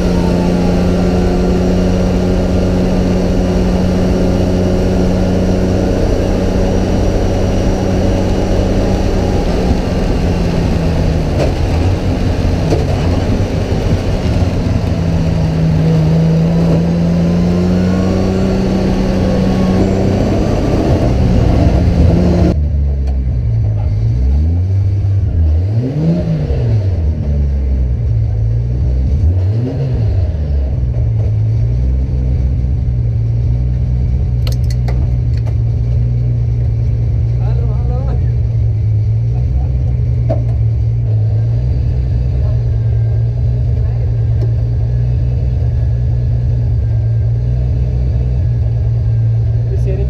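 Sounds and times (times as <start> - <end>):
car engine revving: 0.0 - 50.0
road and tyre noise: 0.0 - 50.0.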